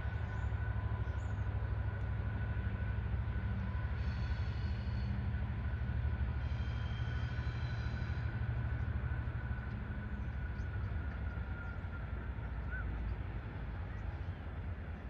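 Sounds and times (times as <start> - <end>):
distant jet airliner rumble: 0.0 - 15.0.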